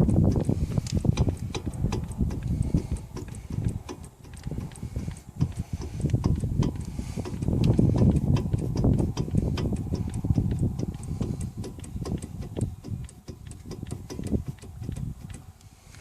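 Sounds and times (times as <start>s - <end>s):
brake caliper clicks and rattles: 0.0s - 16.0s
low rumble: 0.0s - 16.0s.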